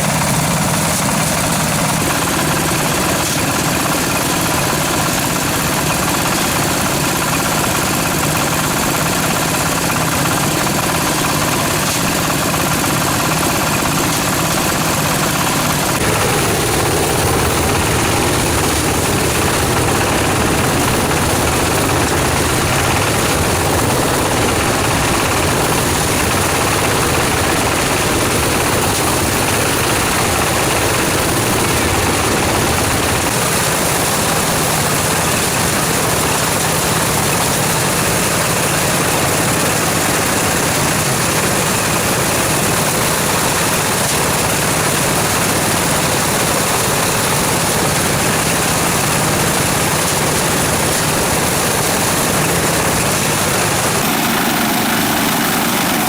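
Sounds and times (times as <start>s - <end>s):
engine-driven machine running: 0.0s - 56.0s.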